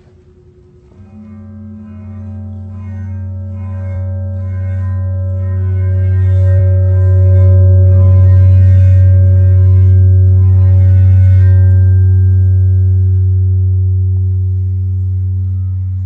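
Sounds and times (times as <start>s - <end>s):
mallet rubbing noise: 0.0s - 16.0s
metal plate ringing drone: 0.0s - 16.0s.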